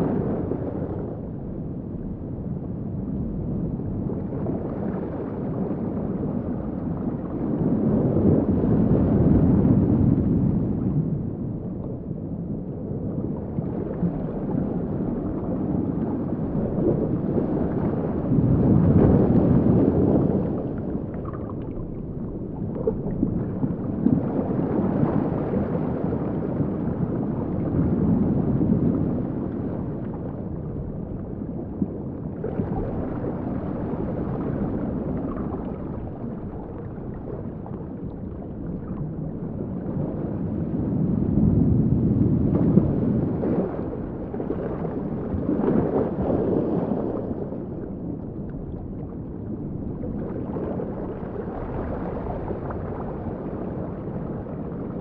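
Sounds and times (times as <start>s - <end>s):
muffled underwater water wash: 0.0s - 55.0s.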